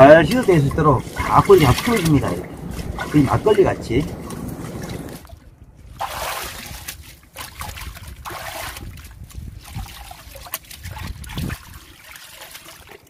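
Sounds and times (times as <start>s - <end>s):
water splashing and trickling: 0.0s - 13.0s
hands swishing through water: 0.2s - 13.0s.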